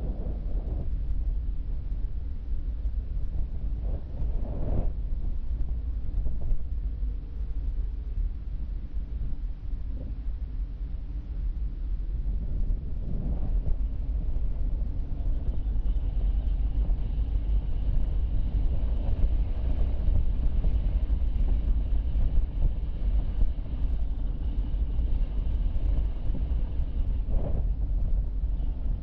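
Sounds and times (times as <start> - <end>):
car road and wind noise: 0.0 - 29.0
faint high whine: 0.0 - 29.0.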